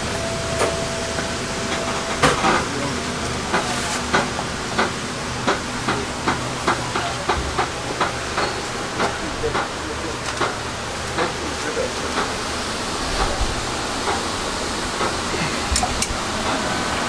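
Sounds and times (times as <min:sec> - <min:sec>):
train hiss and low rumble: 0:00.0 - 0:17.0.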